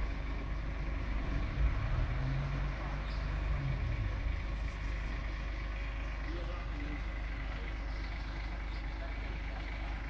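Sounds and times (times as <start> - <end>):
truck engines rumbling: 0.0 - 10.0.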